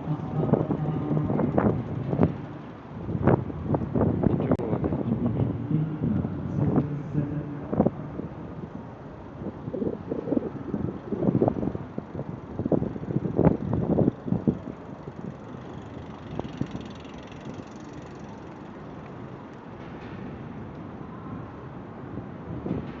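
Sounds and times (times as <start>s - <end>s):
traffic noise: 0.0s - 23.0s
wind: 0.0s - 23.0s.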